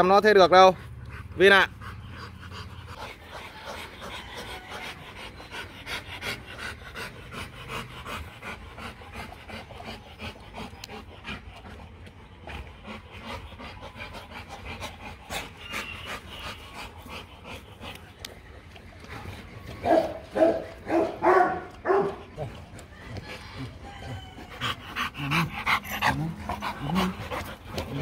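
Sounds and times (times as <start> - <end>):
dog panting: 0.1 - 28.0.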